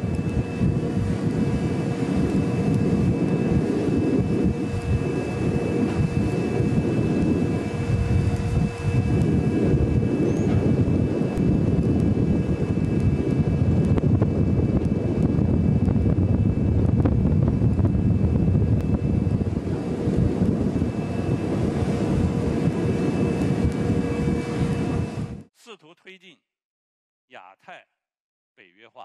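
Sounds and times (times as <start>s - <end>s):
faint hum: 0.0s - 25.4s
ship machinery rumbling: 0.0s - 25.4s
wind: 0.0s - 25.4s.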